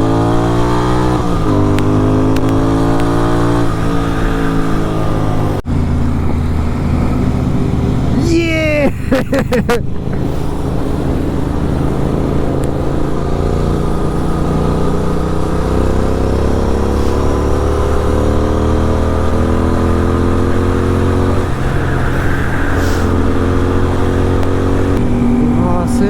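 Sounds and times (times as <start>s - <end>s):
motorbike engine accelerating: 0.0s - 26.0s.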